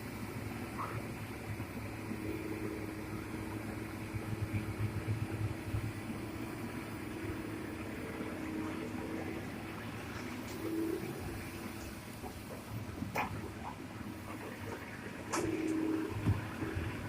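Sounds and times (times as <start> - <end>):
excavator diesel engine droning: 0.0 - 17.0.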